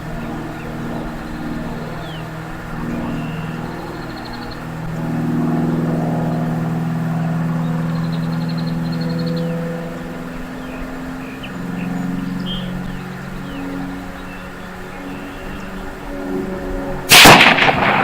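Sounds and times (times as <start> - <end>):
high bird trills: 0.0 - 16.3
vehicle engine running: 0.0 - 18.0.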